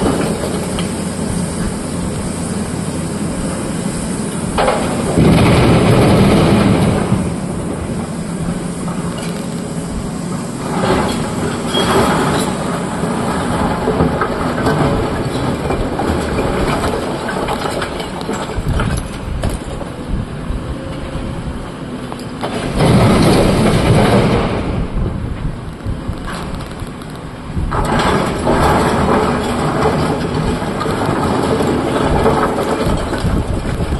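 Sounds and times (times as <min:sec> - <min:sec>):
excavator diesel engine: 0:00.0 - 0:33.9.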